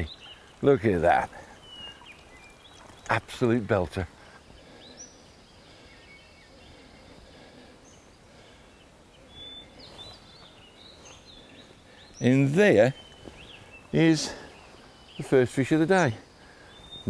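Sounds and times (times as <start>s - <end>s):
faint rustle: 0.0s - 17.0s
songbirds chirping and whistling: 0.0s - 17.0s.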